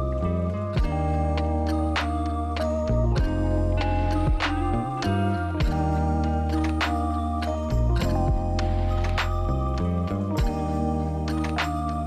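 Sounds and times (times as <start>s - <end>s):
organ-like keyboard chords: 0.0s - 12.0s
steady bass: 0.0s - 12.0s.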